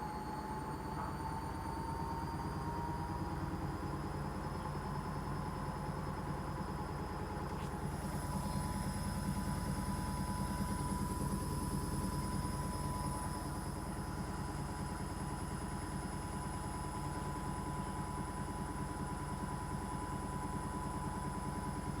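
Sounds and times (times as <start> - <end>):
washing machine spinning: 1.8 - 22.0.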